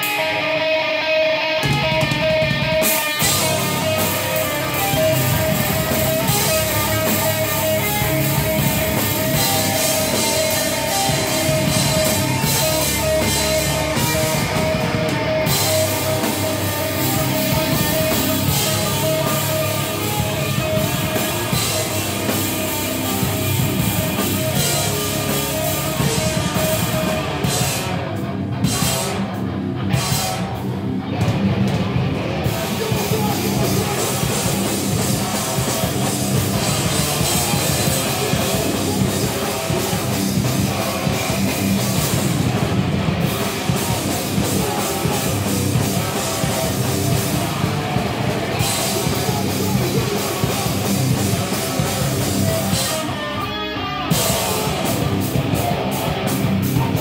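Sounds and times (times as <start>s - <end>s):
live heavy rock band: 0.0s - 57.0s.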